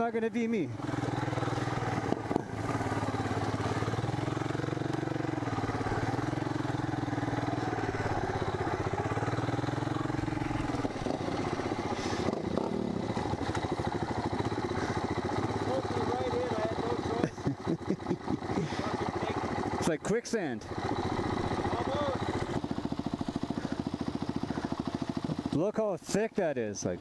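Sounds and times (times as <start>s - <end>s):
three-wheeler engine running: 0.0s - 27.0s.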